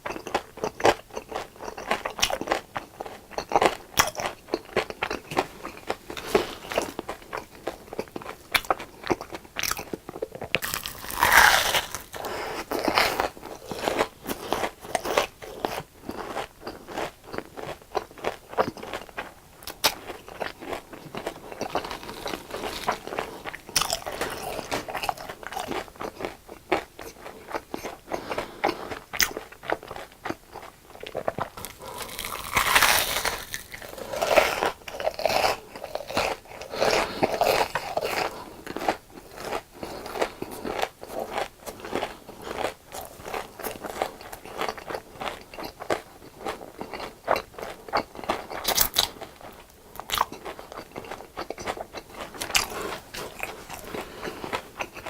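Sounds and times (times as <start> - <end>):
chewing crunchy fried food: 0.0 - 55.0.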